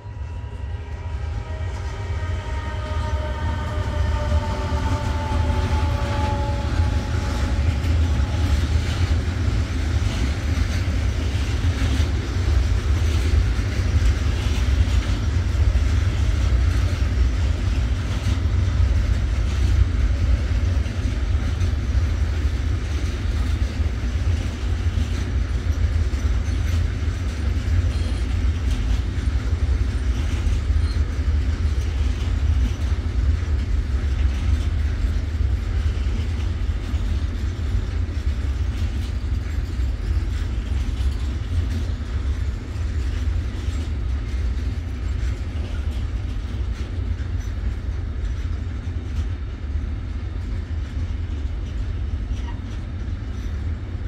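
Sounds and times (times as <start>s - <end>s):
freight train wheels rolling on rails: 0.0s - 54.0s.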